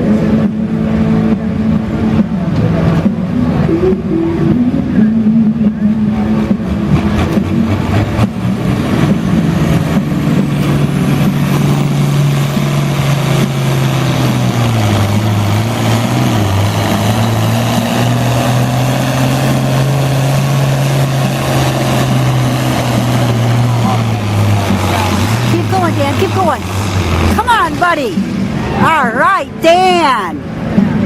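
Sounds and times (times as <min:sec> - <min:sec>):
tractor engine running under load: 0:00.0 - 0:28.7.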